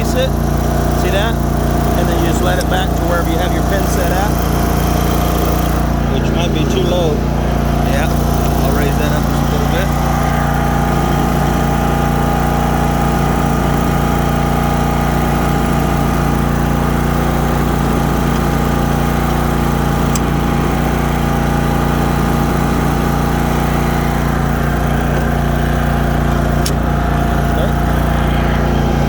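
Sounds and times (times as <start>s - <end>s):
mower engine running: 0.0s - 29.0s.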